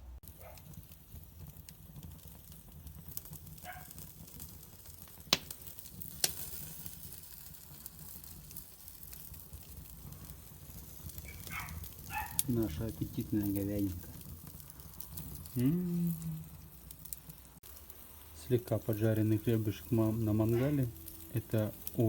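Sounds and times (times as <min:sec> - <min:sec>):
crackling pops: 0:00.2 - 0:22.0
steaks sizzling on a grill: 0:00.3 - 0:22.0.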